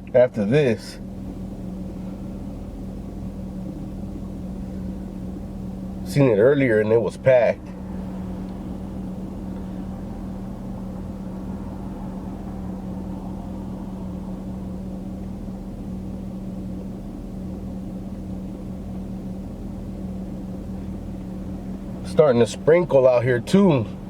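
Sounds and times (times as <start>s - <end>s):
car engine humming from inside: 0.0s - 24.0s.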